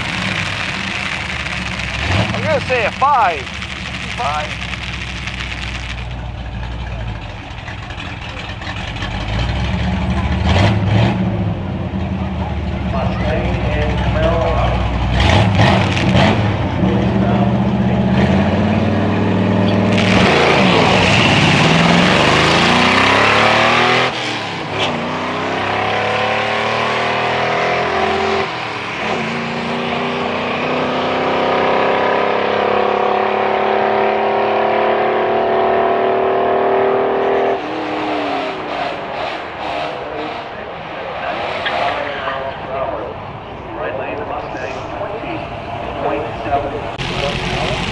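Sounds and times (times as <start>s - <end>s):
car accelerating at full throttle: 0.0s - 7.2s, 8.2s - 44.2s, 45.0s - 47.9s.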